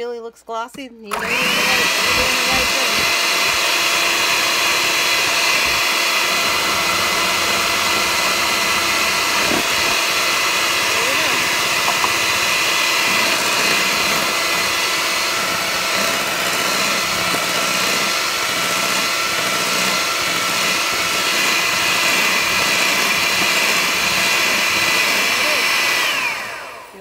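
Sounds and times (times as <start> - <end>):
electric hand mixer whining: 1.1 - 27.0
whir of beaters: 1.1 - 27.0.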